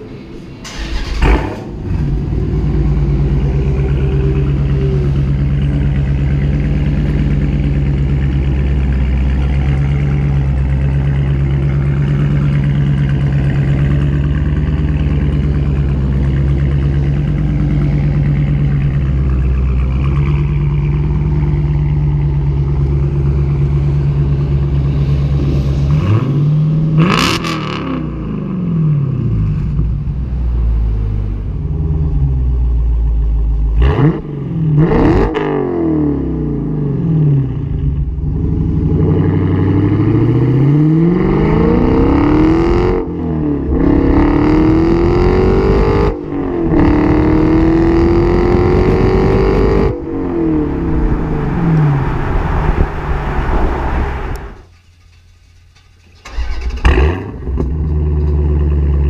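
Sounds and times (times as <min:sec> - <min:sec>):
car engine idling: 0:00.0 - 0:27.0, 0:29.4 - 0:34.7, 0:39.7 - 0:59.0
engine revving: 0:00.0 - 0:32.8, 0:33.6 - 0:54.7, 0:56.2 - 0:59.0.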